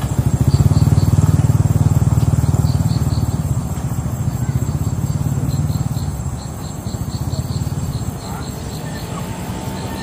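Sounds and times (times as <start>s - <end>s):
high insect trill: 0.0s - 10.0s
insects chirping: 0.0s - 10.0s.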